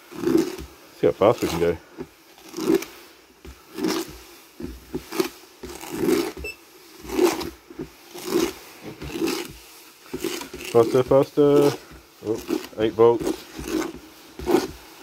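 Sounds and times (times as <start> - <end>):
motor turning plastic tub: 0.0 - 15.0
sand sliding and swishing: 0.0 - 15.0.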